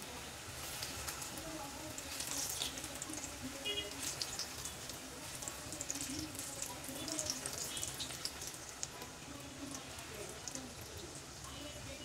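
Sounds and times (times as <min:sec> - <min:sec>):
flatbread sizzling in oil: 0:00.0 - 0:12.0.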